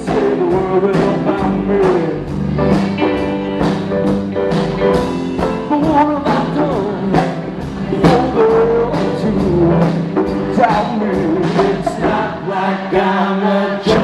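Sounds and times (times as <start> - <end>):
drums steady beat: 0.0 - 14.0
live rock band playing: 0.0 - 14.0.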